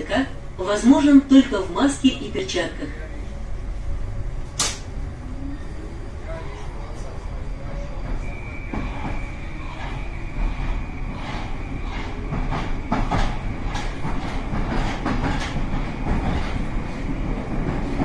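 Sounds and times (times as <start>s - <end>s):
metro train rumble: 0.0s - 18.0s.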